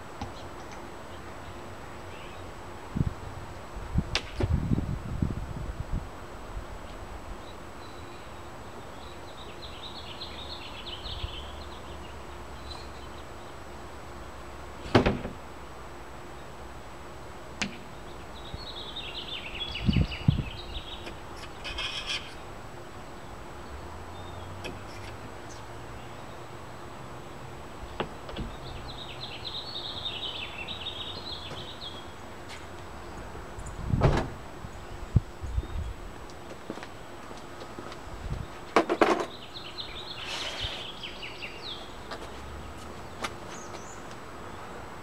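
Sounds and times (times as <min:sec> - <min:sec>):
birds chirping: 0:00.2 - 0:02.7, 0:06.7 - 0:13.8, 0:17.6 - 0:33.9, 0:34.6 - 0:44.8.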